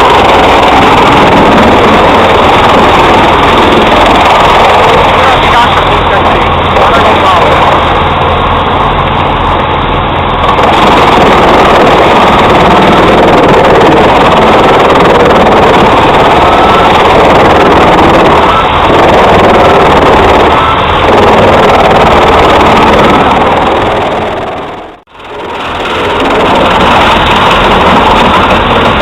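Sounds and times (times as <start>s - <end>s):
wood chipper chipping wood: 0.0s - 29.0s.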